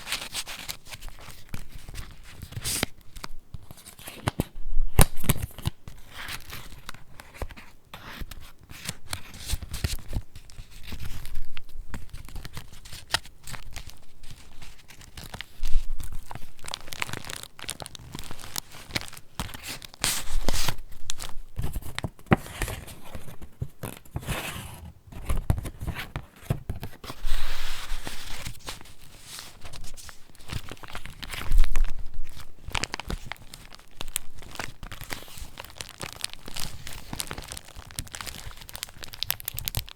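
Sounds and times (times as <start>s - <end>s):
paper pages rustling and turning: 0.0s - 39.9s.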